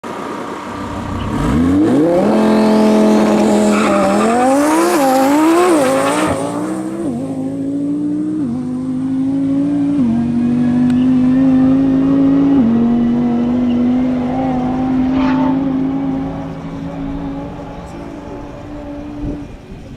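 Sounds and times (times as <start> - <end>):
sports car accelerating with upshifts: 0.1 - 19.8.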